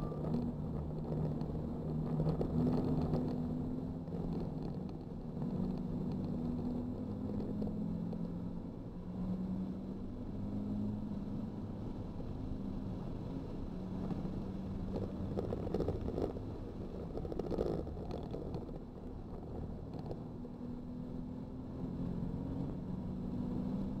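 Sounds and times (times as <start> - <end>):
car engine under throttle: 0.0 - 24.0
road and wind rumble: 0.0 - 24.0.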